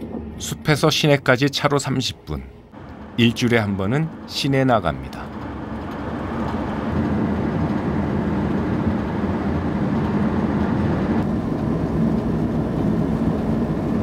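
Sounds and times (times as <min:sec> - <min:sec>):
van engine hum: 0:00.0 - 0:14.0
tyre and road noise: 0:02.7 - 0:14.0.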